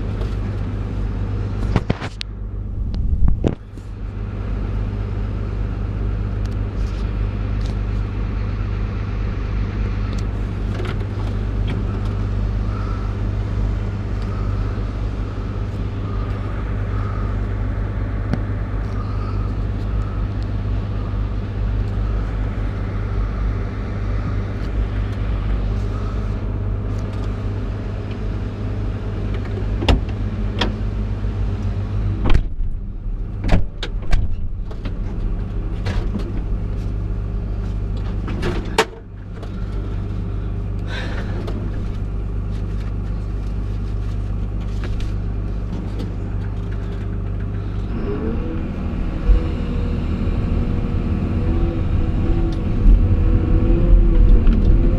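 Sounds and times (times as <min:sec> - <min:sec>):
excavator diesel engine droning: 0:00.0 - 0:54.9.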